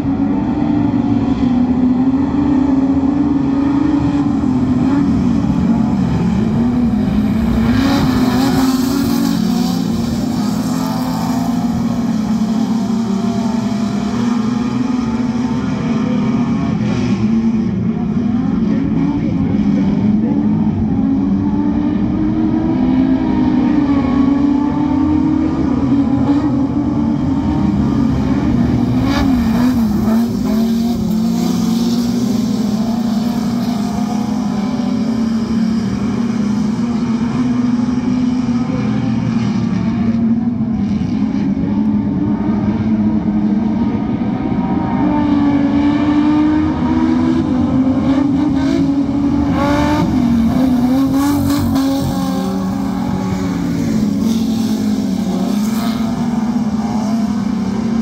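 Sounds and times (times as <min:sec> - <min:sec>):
race car engines racing: 0:00.0 - 0:58.0.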